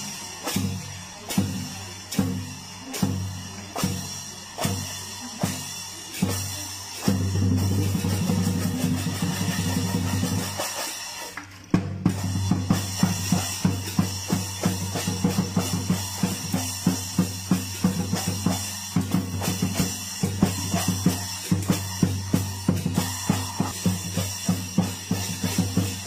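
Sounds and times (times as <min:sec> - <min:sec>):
large drum beaten fast: 0:00.0 - 0:10.7, 0:11.8 - 0:26.0
cymbals clashing: 0:00.0 - 0:11.4, 0:12.0 - 0:26.0.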